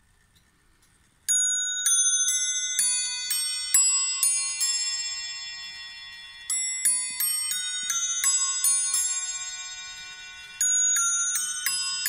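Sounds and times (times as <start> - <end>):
clock chime bells struck: 1.3 - 12.0.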